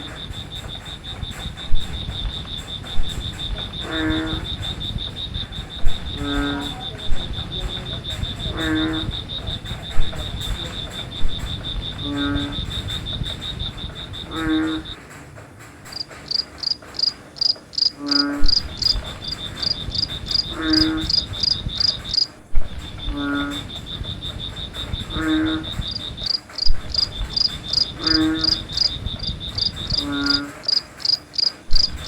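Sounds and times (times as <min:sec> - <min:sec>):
frog croaking: 0:00.0 - 0:15.0, 0:15.9 - 0:32.0
high insect trill: 0:00.0 - 0:15.0, 0:15.9 - 0:32.0
crickets chirping: 0:00.0 - 0:15.1, 0:15.8 - 0:32.0.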